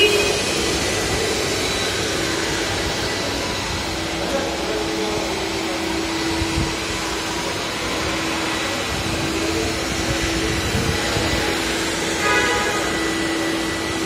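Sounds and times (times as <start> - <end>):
floor scrubber motors whirring: 0.0 - 14.0.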